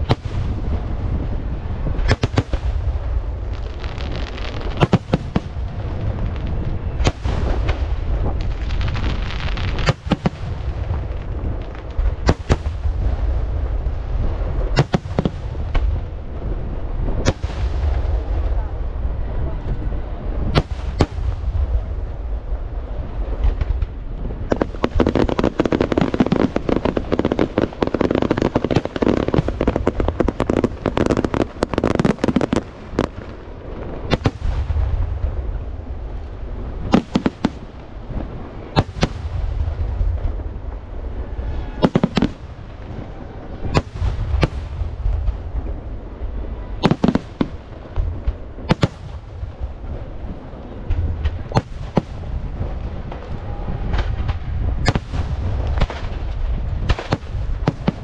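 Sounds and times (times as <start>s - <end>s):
continuous low rumble: 0.0s - 58.0s.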